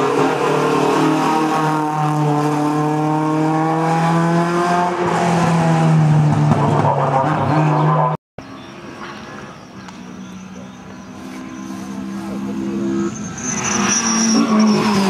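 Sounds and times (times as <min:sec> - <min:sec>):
race car engine at high revs: 0:00.0 - 0:08.2, 0:11.0 - 0:15.0.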